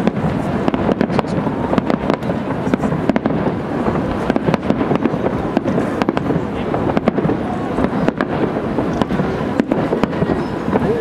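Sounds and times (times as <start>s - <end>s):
firework bangs and crackles: 0.0s - 11.0s.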